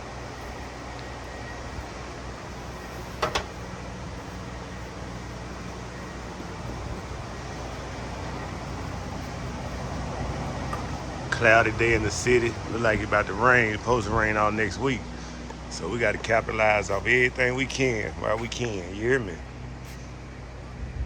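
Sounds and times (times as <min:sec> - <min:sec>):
low engine hum: 0:00.0 - 0:21.0
road noise: 0:00.0 - 0:21.0.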